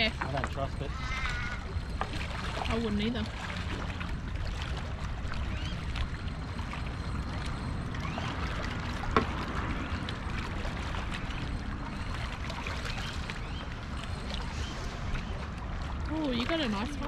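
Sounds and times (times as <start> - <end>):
low rumble: 0.0 - 17.0
water washing: 0.0 - 17.0.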